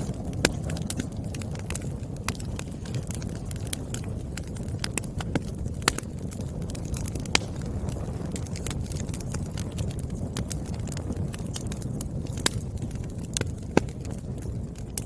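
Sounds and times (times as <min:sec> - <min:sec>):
fire low rumble: 0:00.0 - 0:15.0
wood fire crackling and popping: 0:00.0 - 0:15.0.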